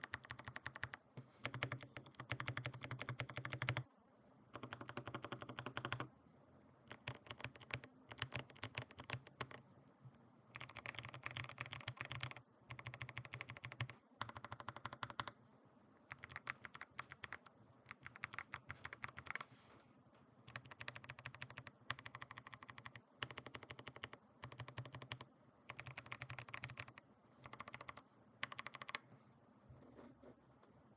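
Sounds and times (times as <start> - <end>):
clicky mechanical keyboard typing: 0.0 - 3.8, 4.5 - 6.1, 6.9 - 9.6, 10.5 - 15.3, 16.1 - 19.5, 20.5 - 29.0.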